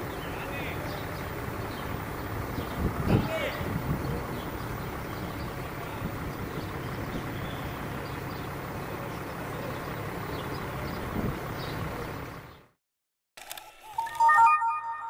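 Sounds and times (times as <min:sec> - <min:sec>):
outdoor background noise: 0:00.0 - 0:12.8.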